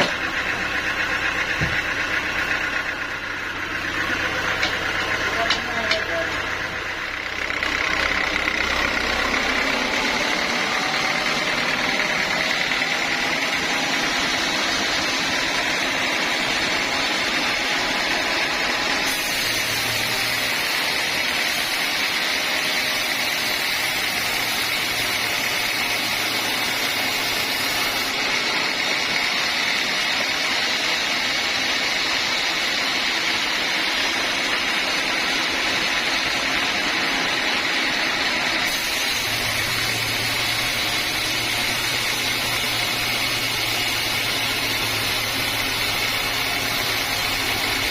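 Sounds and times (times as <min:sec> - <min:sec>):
sawmill saw whining: 0:00.0 - 0:47.9.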